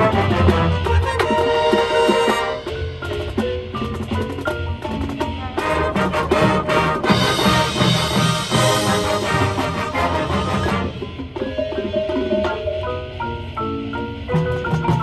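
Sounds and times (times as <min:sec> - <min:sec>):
marching band playing: 0:00.0 - 0:12.9
mallet percussion: 0:00.0 - 0:15.0
steady drum pulse: 0:00.0 - 0:15.0.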